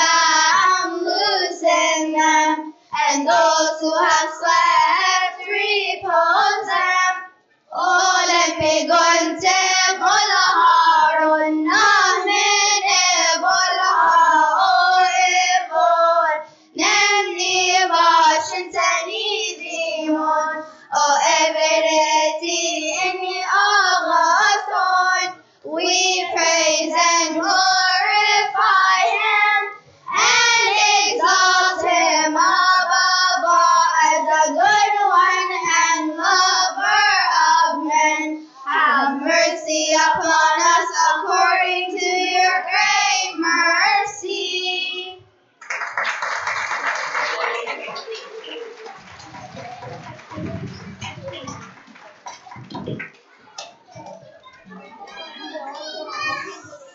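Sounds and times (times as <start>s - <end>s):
children's choir singing: 0.0s - 45.3s, 46.8s - 56.9s.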